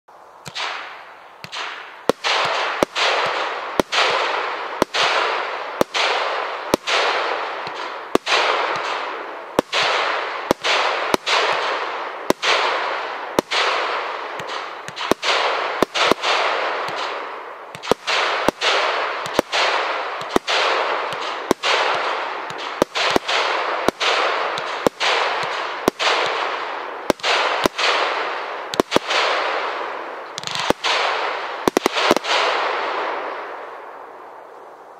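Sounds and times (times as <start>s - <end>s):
firework bangs: 0.4s - 34.0s.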